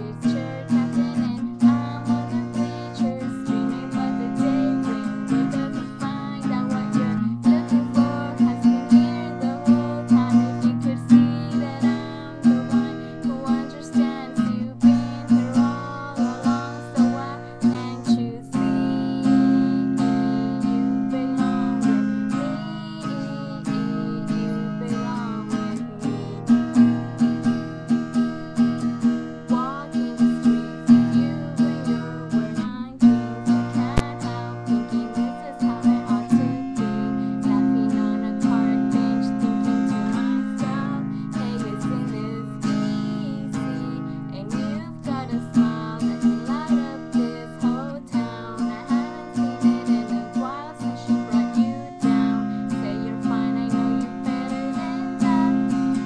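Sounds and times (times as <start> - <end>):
acoustic guitar strumming: 0.0 - 56.0
woman singing: 0.0 - 56.0.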